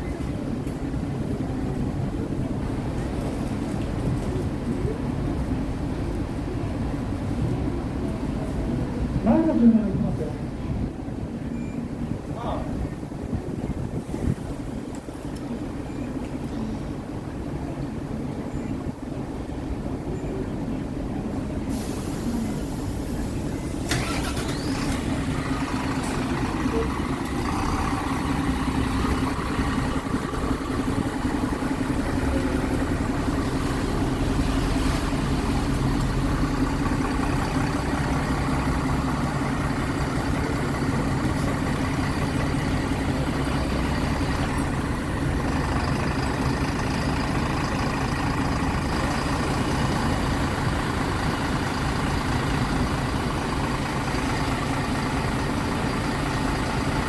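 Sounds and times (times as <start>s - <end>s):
bus diesel engine idling: 0.0s - 57.0s.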